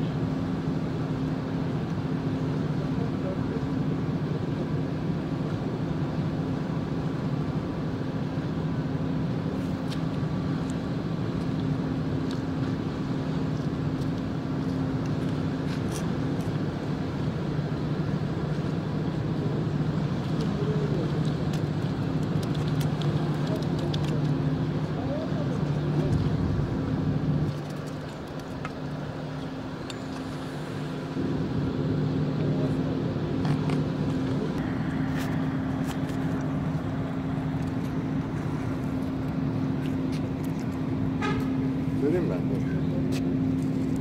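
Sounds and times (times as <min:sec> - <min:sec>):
motor running steadily: 0:00.0 - 0:44.0.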